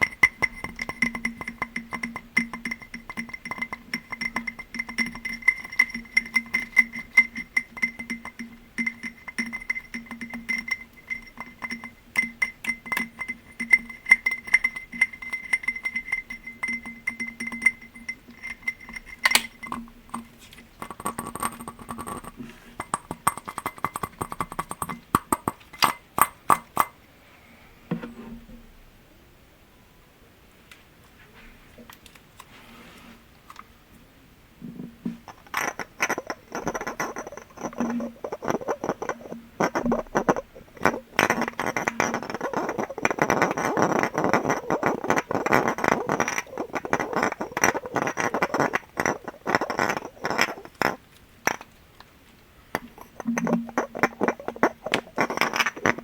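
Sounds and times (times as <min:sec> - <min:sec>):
rapid tapping on ringing glass: 0:00.0 - 0:27.0, 0:35.1 - 0:51.7, 0:52.8 - 0:56.0.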